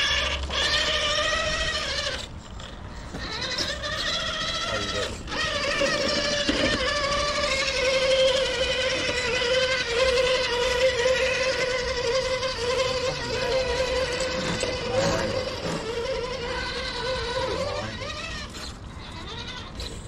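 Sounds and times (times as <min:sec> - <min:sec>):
rc crawler motors whining: 0:00.0 - 0:20.0.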